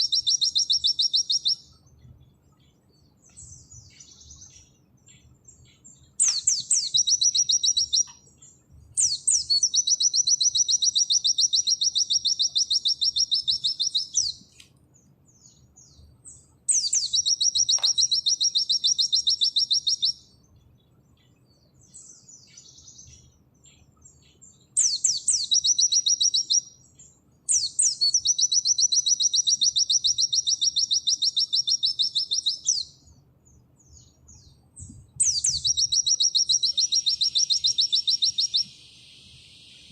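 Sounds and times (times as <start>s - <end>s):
bird singing rapid high trills: 0.0s - 39.9s
soft bird chirps: 0.0s - 39.9s.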